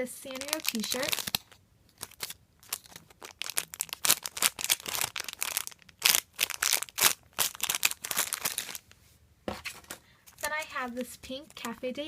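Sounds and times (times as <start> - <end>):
rustling and crinkling: 0.0 - 11.9.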